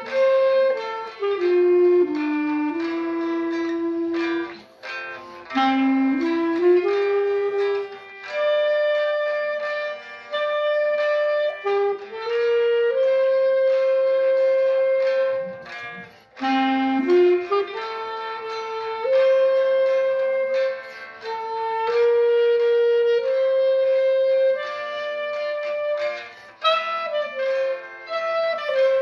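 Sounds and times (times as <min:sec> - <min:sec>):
clarinet playing slow melody: 0:00.0 - 0:29.0
classical guitar backing: 0:00.0 - 0:29.0.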